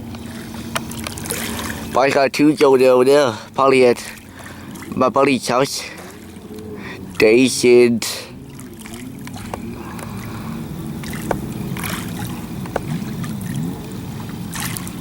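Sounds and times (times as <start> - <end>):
watercraft engine droning: 0.0 - 15.0.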